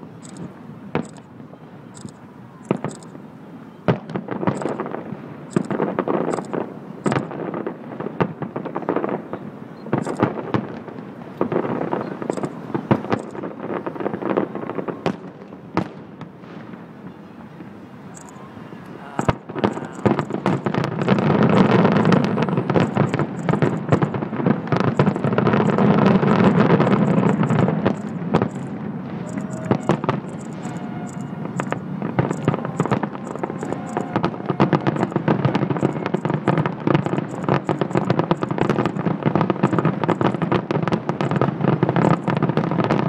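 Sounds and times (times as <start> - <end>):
fireworks bangs and crackle: 0.0 - 43.0.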